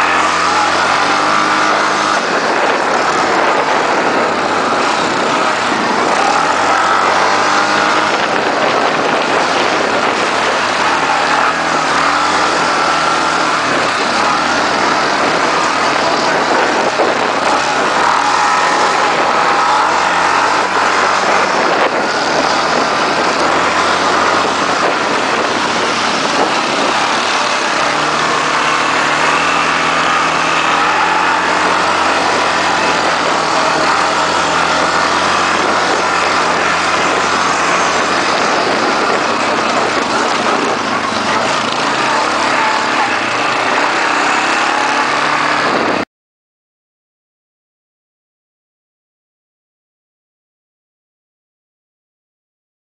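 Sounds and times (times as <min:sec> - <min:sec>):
quad bike engine running: 0:00.0 - 0:46.0.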